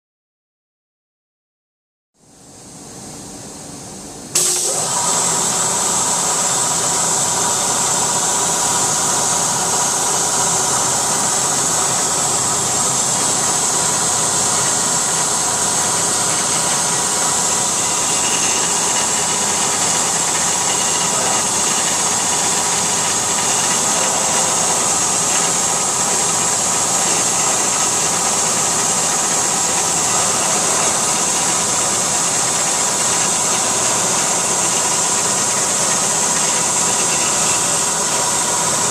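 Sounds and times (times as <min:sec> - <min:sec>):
milling machine hissing: 0:04.4 - 0:38.9
spindle whine: 0:04.4 - 0:38.9.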